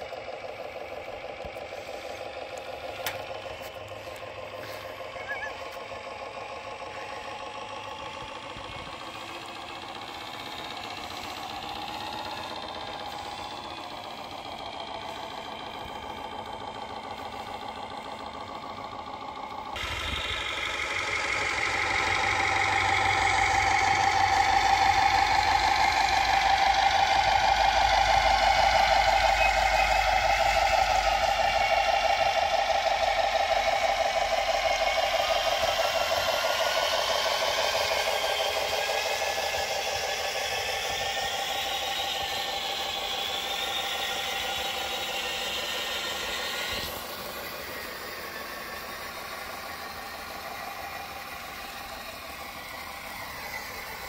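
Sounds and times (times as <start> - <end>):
simulated diesel engine sound: 0.0 - 54.0.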